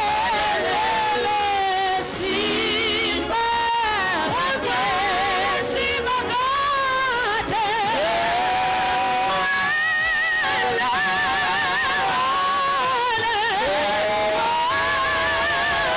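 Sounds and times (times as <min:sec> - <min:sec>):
voices singing slow worship melody: 0:00.0 - 0:15.9.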